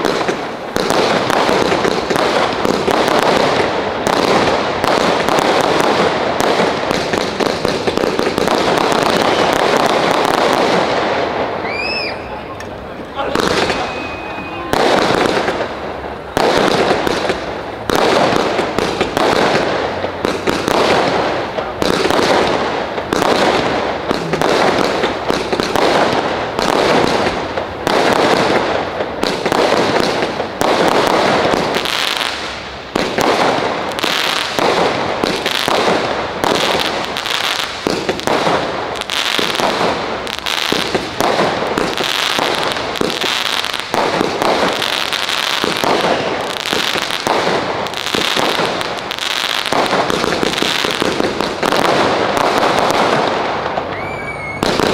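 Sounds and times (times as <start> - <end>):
firework crackling: 0.0 - 54.9
firework shells bursting: 0.0 - 54.9.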